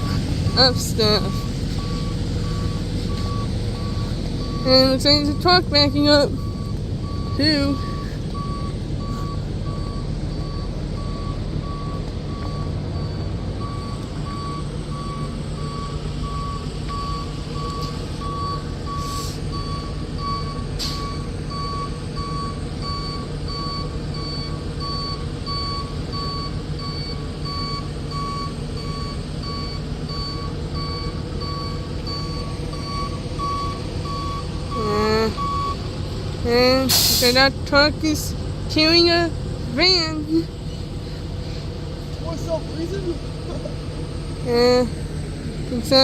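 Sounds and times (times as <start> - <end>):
truck backup alarm beeping: 0.0 - 41.3
truck engine running: 0.0 - 46.0.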